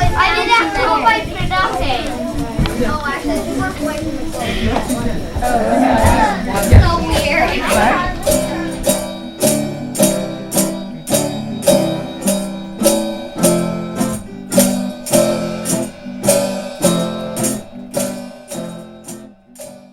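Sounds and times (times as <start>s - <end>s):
acoustic guitar strumming: 0.0s - 19.9s.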